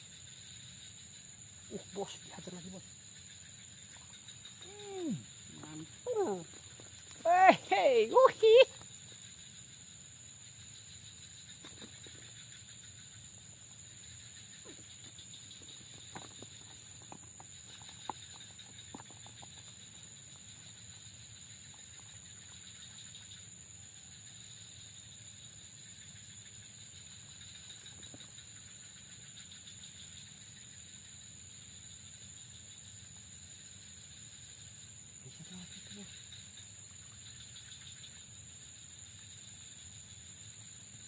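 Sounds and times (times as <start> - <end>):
insect chorus drone: 0.0 - 41.0.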